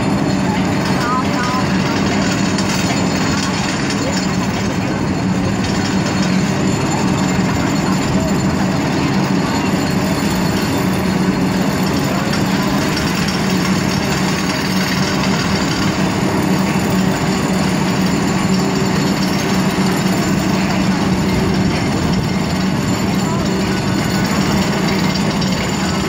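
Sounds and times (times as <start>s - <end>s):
pile-driving rig din: 0.0s - 26.0s.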